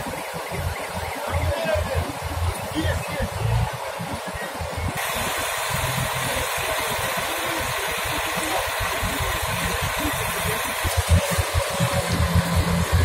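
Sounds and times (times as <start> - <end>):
fire engine running: 0.0 - 13.0.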